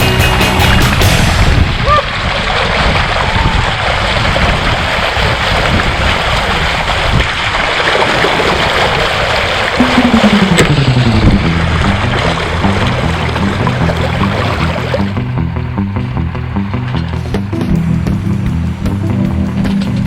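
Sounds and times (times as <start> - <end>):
rushing water: 0.0 - 20.0
wind: 0.0 - 20.0.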